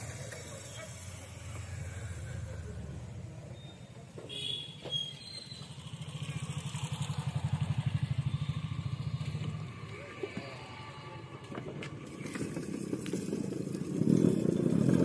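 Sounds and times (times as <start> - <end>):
motorcycle passing by: 0.0 - 15.0.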